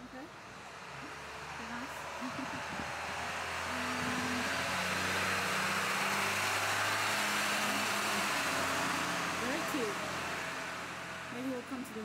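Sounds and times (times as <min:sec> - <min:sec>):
car driving past: 0:00.3 - 0:12.0.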